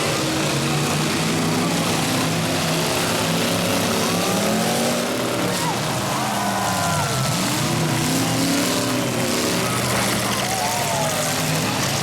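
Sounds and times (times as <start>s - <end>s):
car engines revving together: 0.0s - 12.0s.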